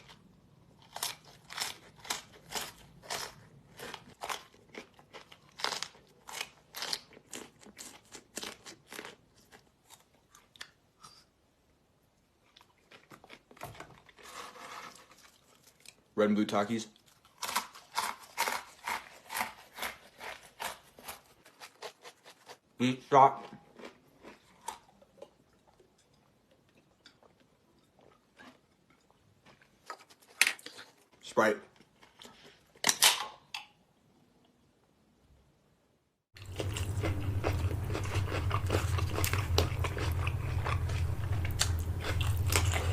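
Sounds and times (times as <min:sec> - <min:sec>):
crunchy food chewing: 0:00.0 - 0:11.3, 0:12.4 - 0:16.1, 0:17.0 - 0:22.6, 0:23.4 - 0:32.8, 0:36.4 - 0:42.9.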